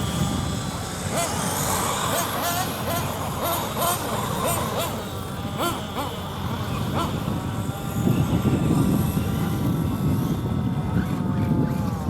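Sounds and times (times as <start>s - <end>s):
steady engine tone: 0.0s - 12.0s.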